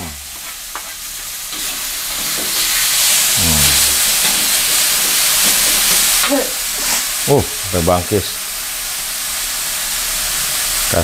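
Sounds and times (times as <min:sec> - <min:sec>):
spice paste sizzling in hot oil: 0:00.0 - 0:11.0.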